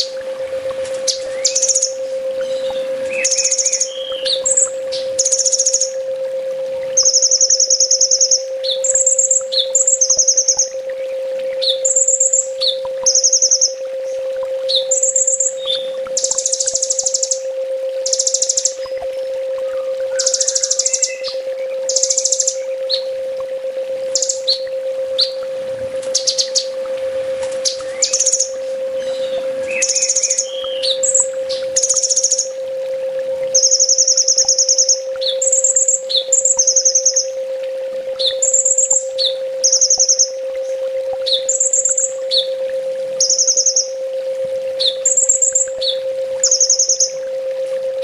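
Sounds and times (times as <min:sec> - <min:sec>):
steady hum: 0:00.0 - 0:48.0
sunbird singing high trills: 0:01.0 - 0:06.0, 0:07.0 - 0:19.0, 0:19.7 - 0:23.2, 0:24.1 - 0:25.4, 0:26.1 - 0:26.7, 0:27.6 - 0:32.6, 0:33.5 - 0:37.4, 0:38.2 - 0:42.6, 0:43.2 - 0:44.0, 0:44.8 - 0:47.2.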